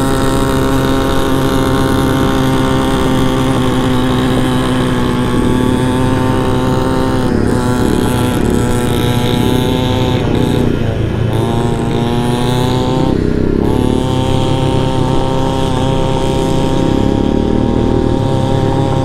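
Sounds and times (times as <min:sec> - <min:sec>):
scooter engine running: 0:00.0 - 0:19.0.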